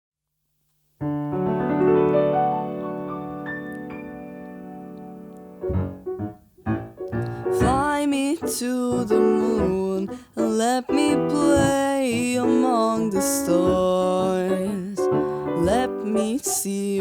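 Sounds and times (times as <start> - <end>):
piano chords: 1.0 - 17.0.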